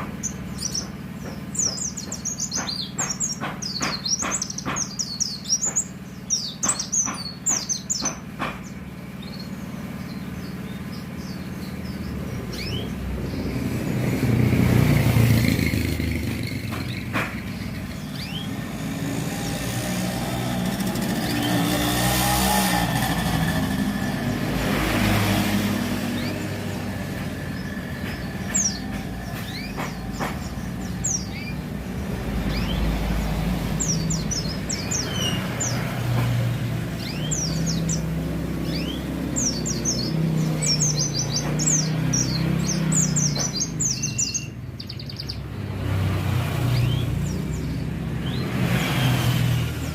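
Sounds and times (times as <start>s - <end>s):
bird chirping high twittering notes: 0.0s - 35.9s, 36.7s - 45.5s
cars and motorcycles passing: 0.0s - 49.9s.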